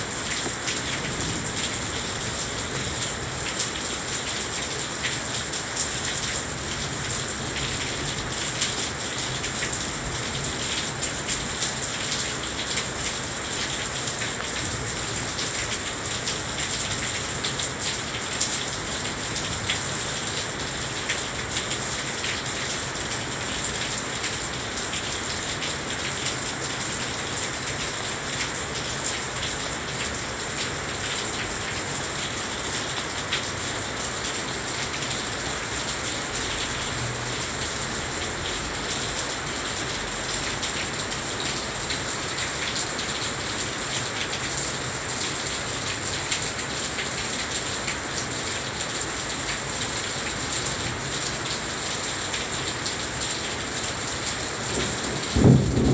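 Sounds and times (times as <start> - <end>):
raindrops hitting balcony: 0.0 - 55.9.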